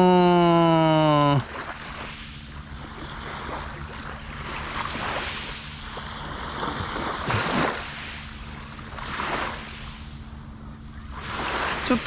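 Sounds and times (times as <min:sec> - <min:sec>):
small waves washing on beach: 0:00.8 - 0:12.0.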